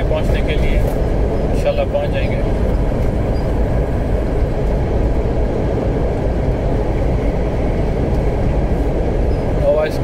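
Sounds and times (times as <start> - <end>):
truck engine drone: 0.0 - 10.0
tyre road noise: 0.0 - 10.0.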